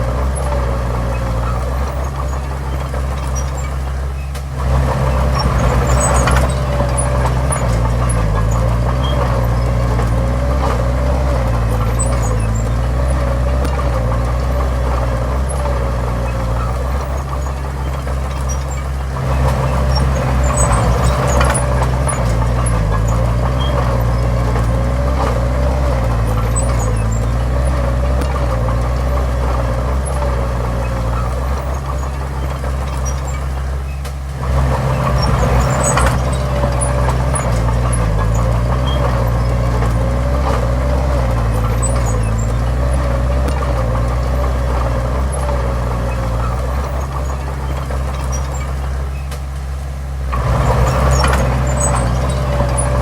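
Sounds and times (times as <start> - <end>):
diesel machinery engine running: 0.0 - 53.0.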